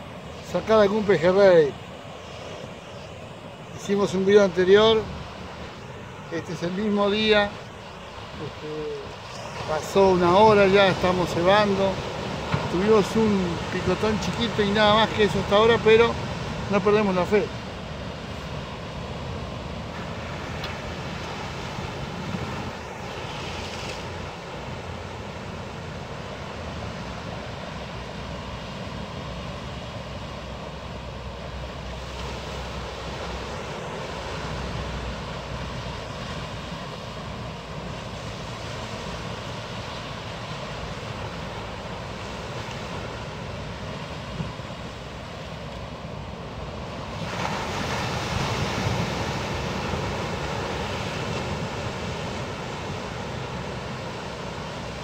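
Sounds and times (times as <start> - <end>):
sea surf: 0.0 - 55.0
wave breaking: 8.3 - 55.0.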